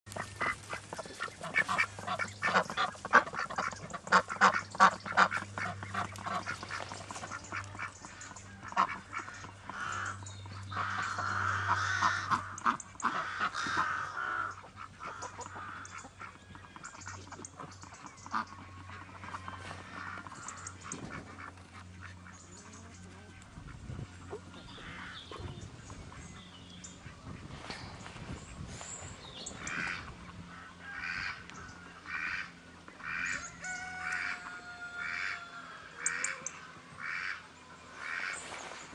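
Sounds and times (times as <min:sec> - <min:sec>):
ducks quacking: 0:00.1 - 0:38.9.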